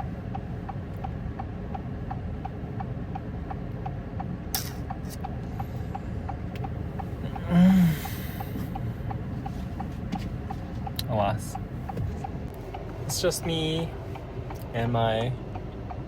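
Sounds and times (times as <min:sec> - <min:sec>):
hazard flasher relay ticking: 0:00.0 - 0:16.0
low steady rumble: 0:00.0 - 0:16.0.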